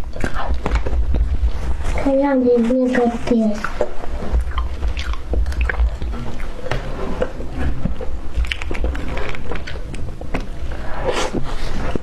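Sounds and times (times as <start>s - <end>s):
person chewing cake: 0.0s - 2.0s, 3.6s - 12.0s
soft squishing of cream and sponge: 0.0s - 12.0s.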